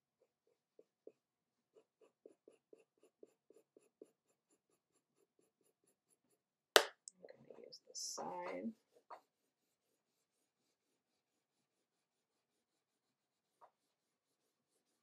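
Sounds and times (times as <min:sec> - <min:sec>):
pencil scratching on paper: 0:00.0 - 0:06.7, 0:07.5 - 0:15.0.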